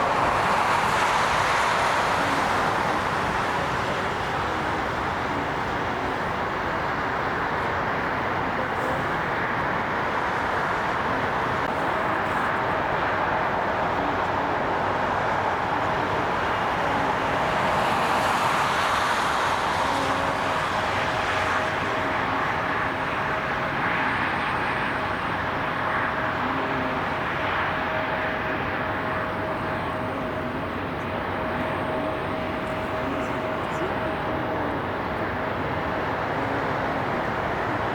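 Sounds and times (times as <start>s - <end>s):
jet airliner engines roaring: 0.0s - 37.9s.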